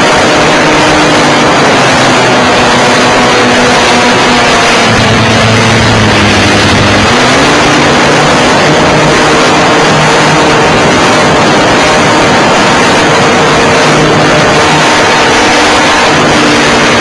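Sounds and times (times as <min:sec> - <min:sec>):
heavy wind rush: 0:00.0 - 0:17.0
model airplane engine at high throttle: 0:00.0 - 0:17.0.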